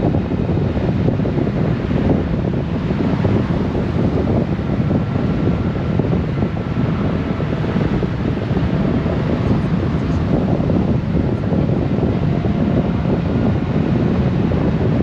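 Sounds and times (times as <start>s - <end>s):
motorcycle engine and road noise: 0.0s - 15.0s
wind rushing over microphone: 0.0s - 15.0s.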